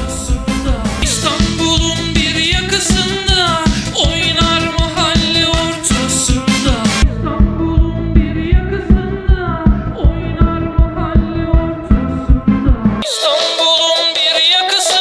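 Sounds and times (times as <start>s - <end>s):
song with thumping beat: 0.0s - 15.0s.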